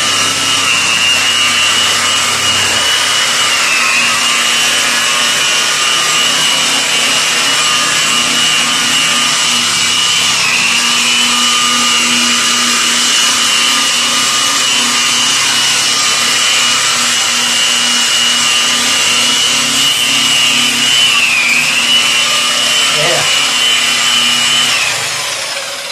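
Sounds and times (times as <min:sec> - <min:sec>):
electric polisher motor whine: 0:00.0 - 0:25.9.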